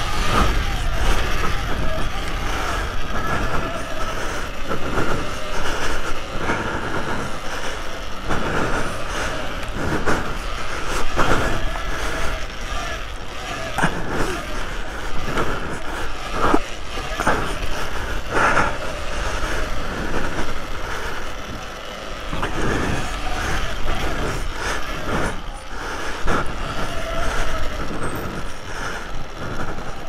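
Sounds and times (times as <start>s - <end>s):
electric motor whine: 0.0s - 30.0s
wind and tyre noise: 0.0s - 30.0s.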